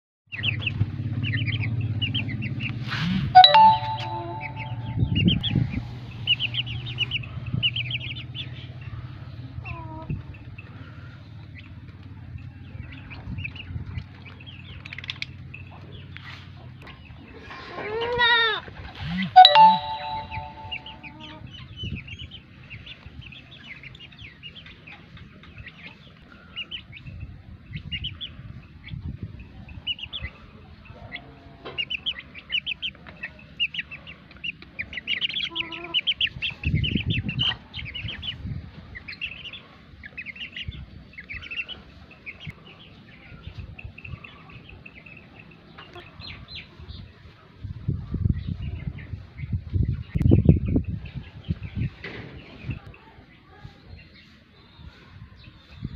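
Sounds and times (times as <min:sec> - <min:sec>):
small birds chirping: 0:00.3 - 0:18.2, 0:18.8 - 0:55.9.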